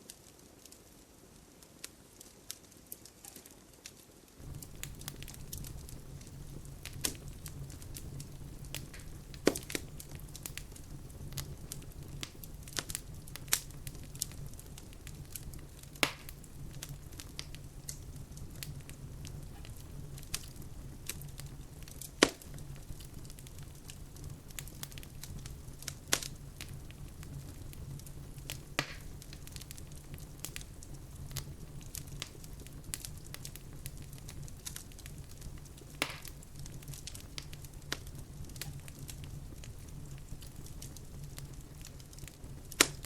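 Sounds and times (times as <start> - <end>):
fire pops: 0.0 - 43.0
wood fire crackling: 0.0 - 43.0.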